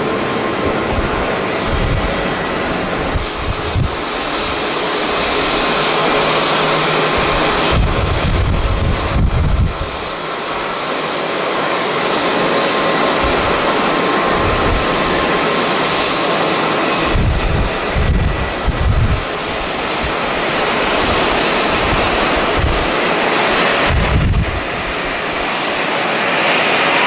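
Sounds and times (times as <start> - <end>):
jet engines whining: 0.0 - 27.0
wind buffeting microphone: 0.2 - 27.0.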